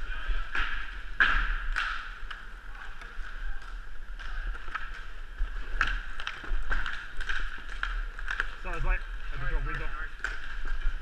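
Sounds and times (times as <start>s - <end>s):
inline skate wheels rolling: 0.0s - 11.0s
skate strides scraping: 0.0s - 11.0s.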